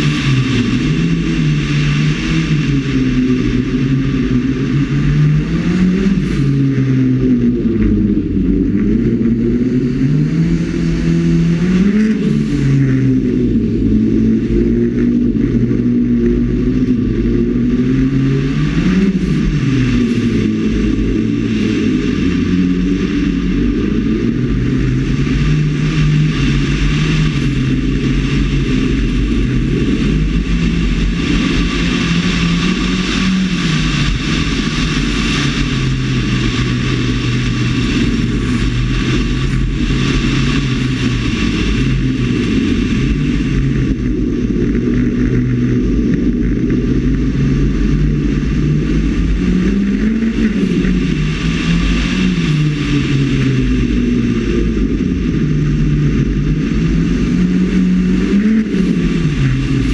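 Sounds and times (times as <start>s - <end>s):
rally car engine running hard: 0.0s - 59.9s
wind rush: 0.0s - 59.9s.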